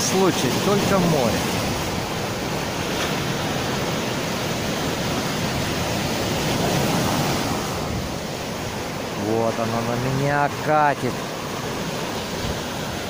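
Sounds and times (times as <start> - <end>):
surf breaking on pebbly shore: 0.0 - 13.0.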